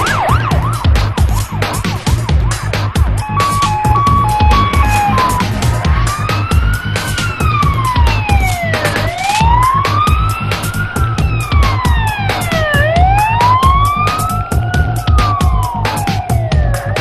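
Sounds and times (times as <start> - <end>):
music with fast beat and bass: 0.0 - 17.0
wailing siren: 0.0 - 17.0.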